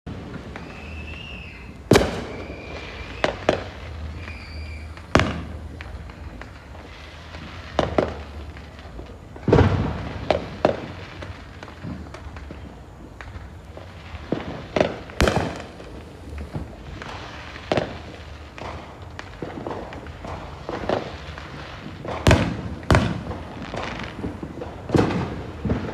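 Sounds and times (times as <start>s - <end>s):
fireworks bangs and crackling: 0.1s - 25.9s.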